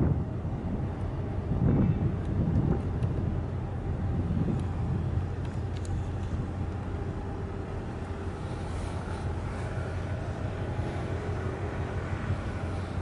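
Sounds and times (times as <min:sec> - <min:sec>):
distant engines rumbling: 0:00.0 - 0:13.0.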